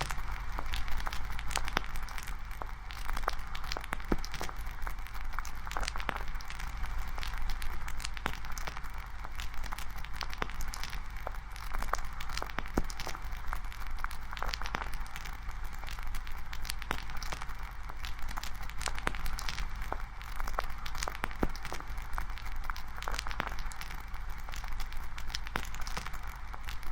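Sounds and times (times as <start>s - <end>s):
campfire crackling: 0.0s - 26.9s.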